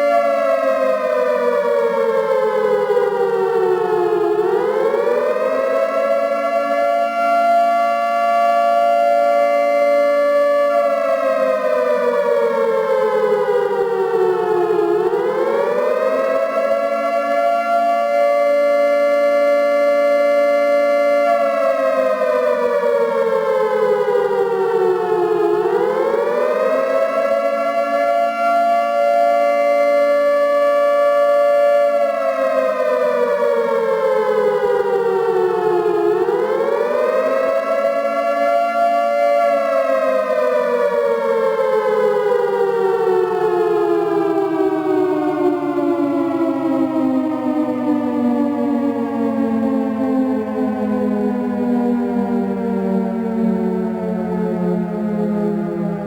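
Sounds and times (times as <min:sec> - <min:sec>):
civil defence siren: 0:00.0 - 0:56.0.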